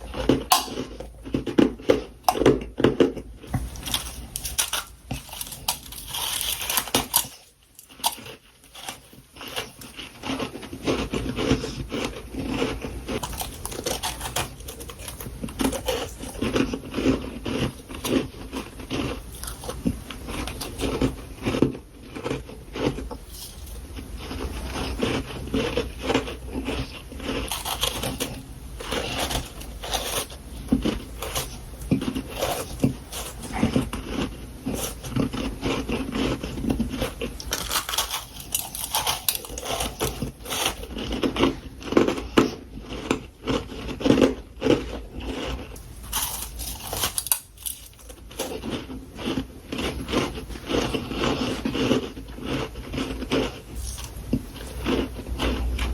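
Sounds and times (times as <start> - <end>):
chewing crunchy frost: 0.0 - 55.9.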